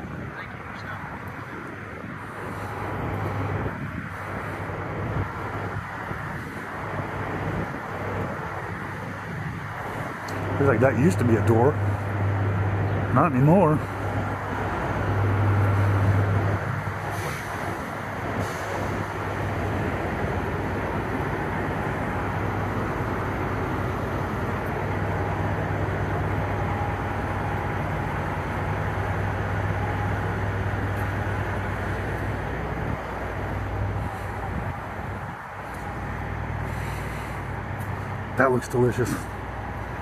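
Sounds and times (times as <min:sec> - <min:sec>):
diesel trucks idling: 0:00.0 - 0:40.0.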